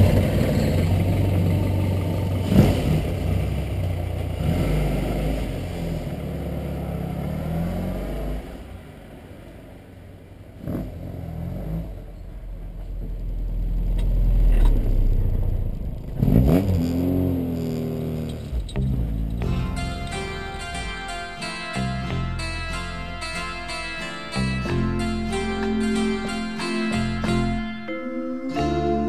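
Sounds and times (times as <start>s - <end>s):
low rumble: 0.0s - 10.6s, 11.4s - 27.6s
car engine pulling away: 0.0s - 29.0s.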